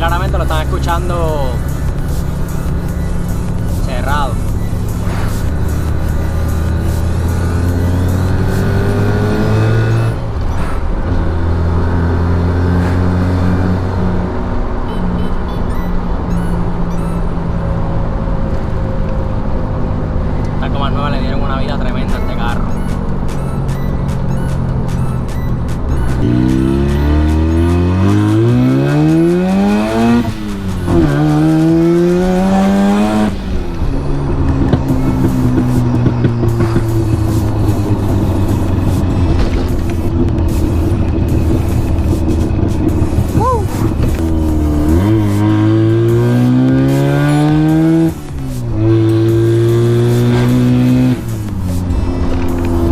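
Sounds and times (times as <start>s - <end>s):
rotary car engine accelerating: 0.0s - 52.9s.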